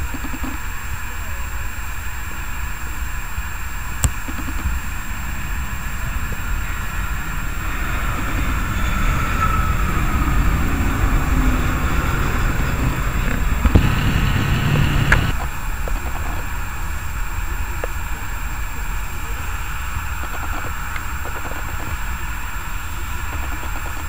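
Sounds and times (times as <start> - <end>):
jet engine whine: 0.0 - 24.0
jet engines overhead: 0.0 - 24.0.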